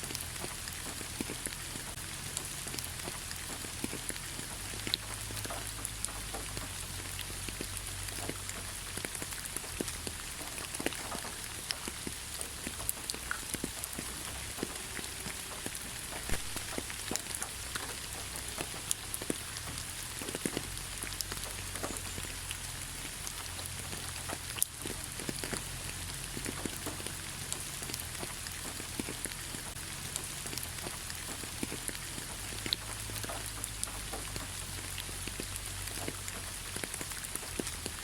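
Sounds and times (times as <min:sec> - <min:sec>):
rain hiss: 0:00.0 - 0:38.0
raindrops pattering close by: 0:00.0 - 0:38.0.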